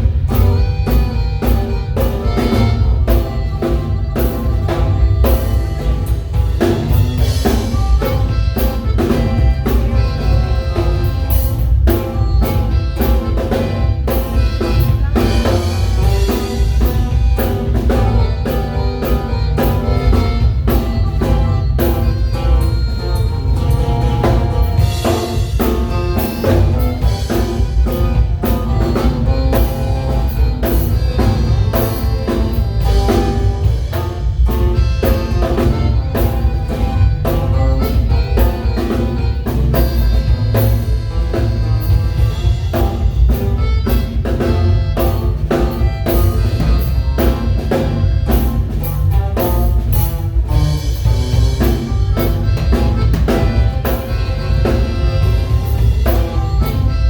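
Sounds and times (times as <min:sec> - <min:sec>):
band playing instrumental music: 0:00.0 - 0:57.0
drum kit beat: 0:00.0 - 0:57.0.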